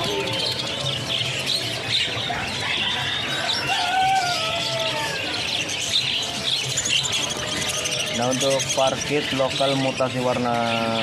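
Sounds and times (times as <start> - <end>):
budgerigars chirping and chattering: 0.0 - 11.0.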